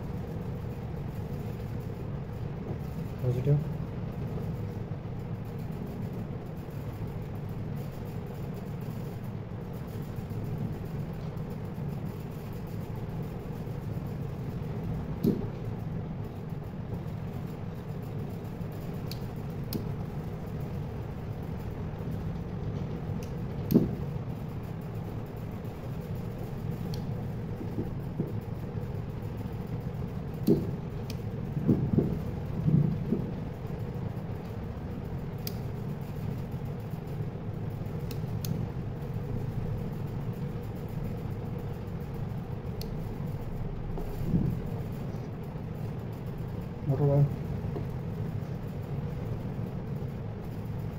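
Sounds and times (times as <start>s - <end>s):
low hum: 0.0s - 50.9s.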